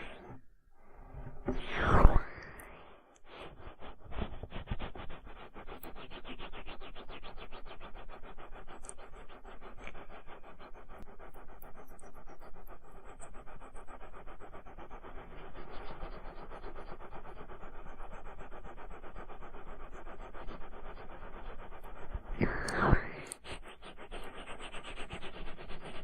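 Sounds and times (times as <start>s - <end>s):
scratching against microphone: 1.1s - 26.0s.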